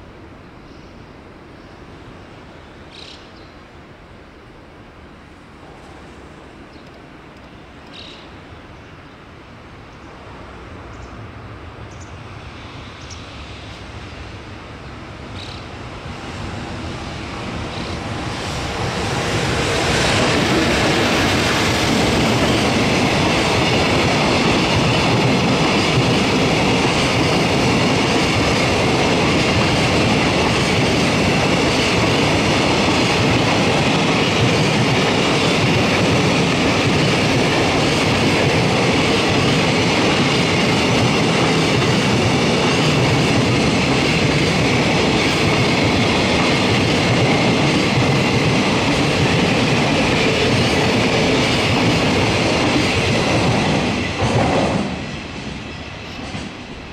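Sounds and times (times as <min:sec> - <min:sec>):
freight train rolling past: 0:04.4 - 0:56.9.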